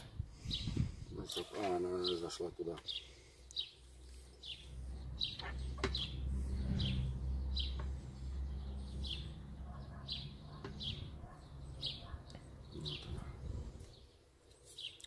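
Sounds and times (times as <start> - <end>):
small bird chirping: 0.4 - 15.0.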